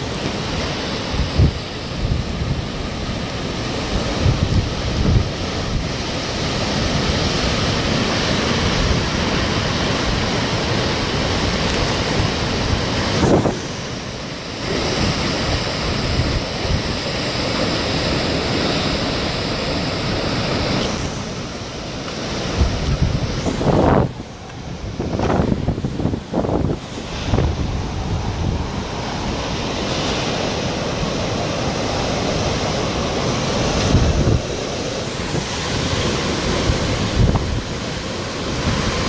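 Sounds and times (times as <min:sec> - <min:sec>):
hurricane wind: 0:00.0 - 0:39.0
rain: 0:00.0 - 0:39.0
wind buffeting microphone: 0:00.0 - 0:39.0.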